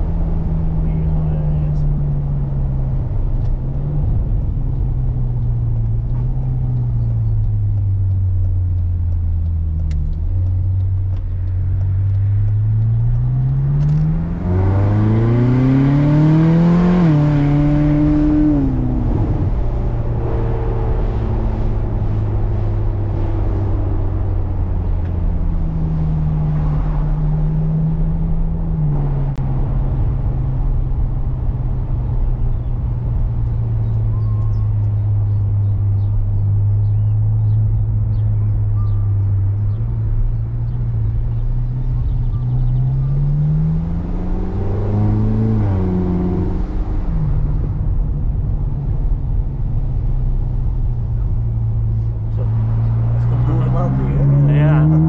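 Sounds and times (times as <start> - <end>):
car engine cruising and revving: 0.0 - 55.0.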